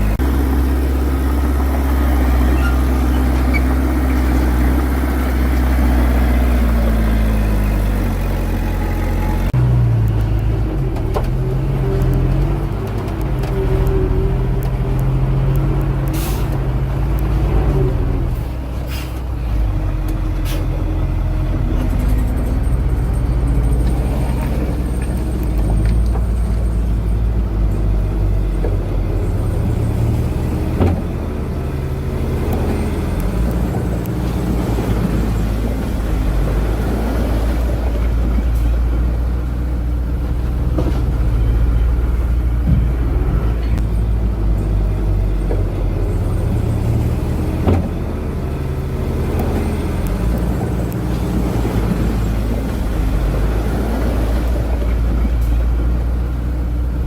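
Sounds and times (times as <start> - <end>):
heavy diesel engines under load: 0.0 - 57.0.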